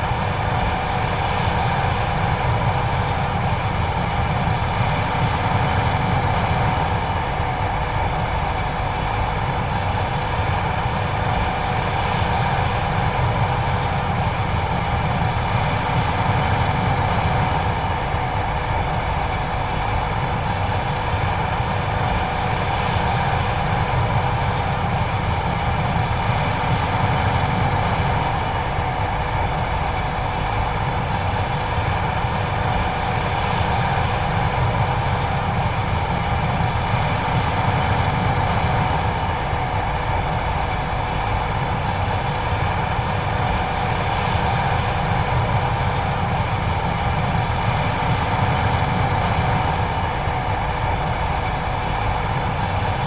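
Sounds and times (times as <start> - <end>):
combine harvester drone: 0.0 - 53.0.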